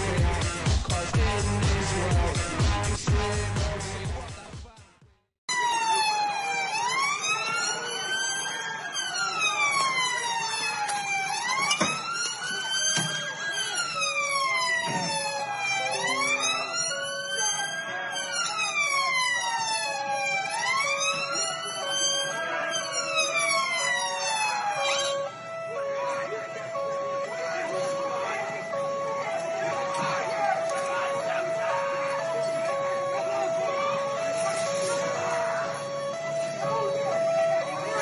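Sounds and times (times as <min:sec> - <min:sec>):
siren wailing: 0:05.5 - 0:38.0
two-tone siren: 0:05.5 - 0:38.0.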